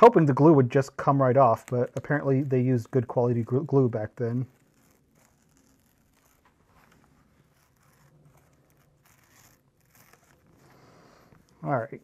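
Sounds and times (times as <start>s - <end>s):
paper scratching and tearing: 0.0s - 11.5s.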